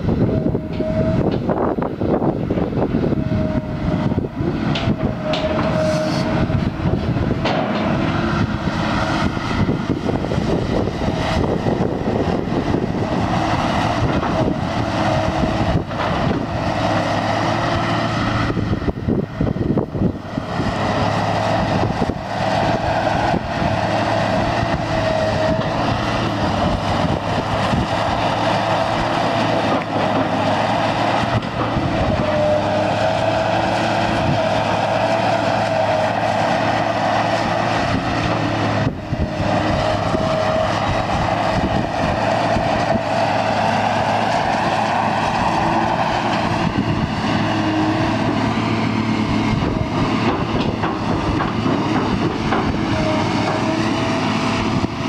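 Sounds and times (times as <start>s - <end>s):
excavator diesel engine: 0.0s - 55.0s
hydraulic whine: 0.0s - 55.0s.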